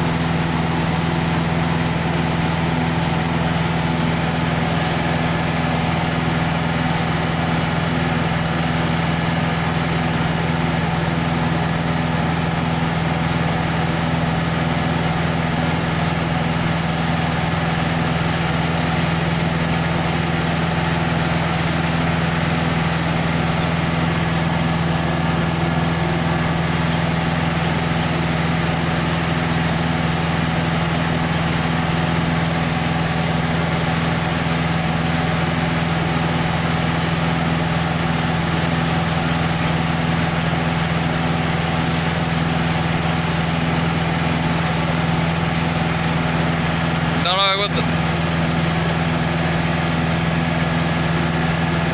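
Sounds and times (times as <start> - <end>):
diesel engine low hum: 0.0 - 51.9.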